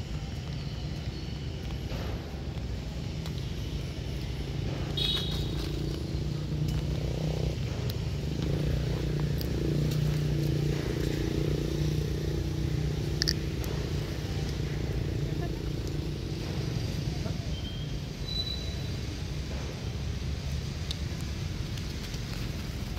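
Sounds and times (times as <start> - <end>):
low motor hum: 0.0 - 22.9.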